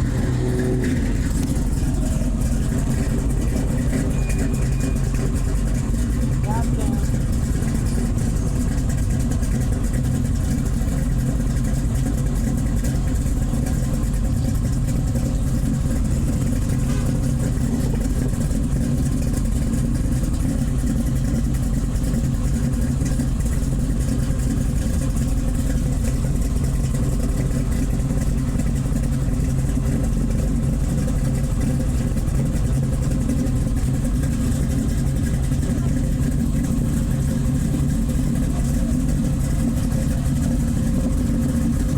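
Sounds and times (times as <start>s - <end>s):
car engine running steadily: 0.0s - 41.9s.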